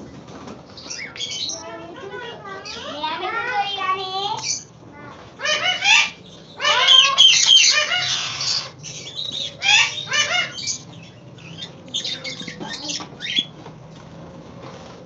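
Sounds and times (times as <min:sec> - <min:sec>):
parakeet squawking and chattering: 0:00.8 - 0:13.6.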